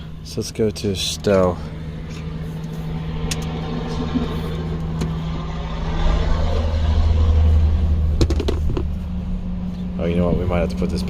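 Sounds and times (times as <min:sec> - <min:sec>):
electric motor humming: 0:01.2 - 0:11.0.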